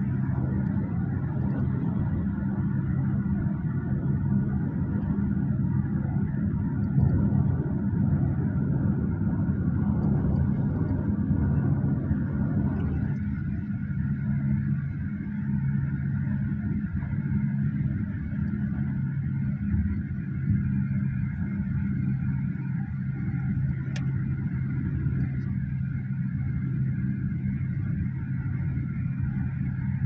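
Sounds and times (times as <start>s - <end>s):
road and engine rumble in van: 0.0s - 30.0s.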